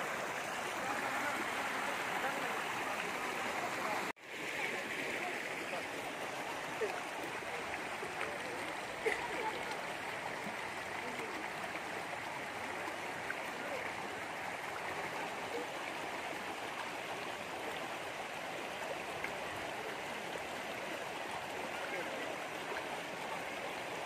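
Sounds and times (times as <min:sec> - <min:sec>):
stream rushing over boulders: 0:00.0 - 0:24.0.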